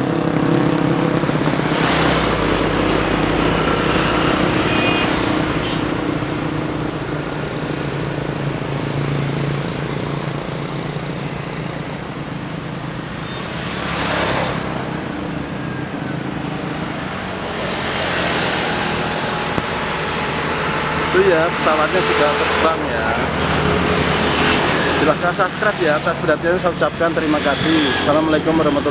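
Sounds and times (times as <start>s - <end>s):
distant jet engines roaring: 0.0s - 28.9s.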